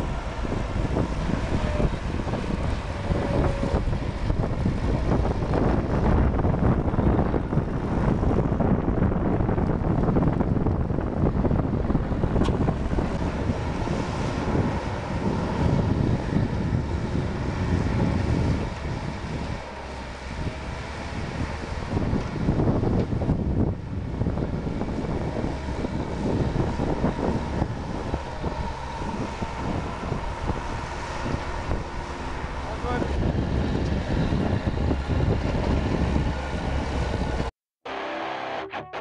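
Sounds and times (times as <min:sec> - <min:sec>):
wind buffeting microphone: 0:00.0 - 0:37.5
loader engine running: 0:00.0 - 0:39.0.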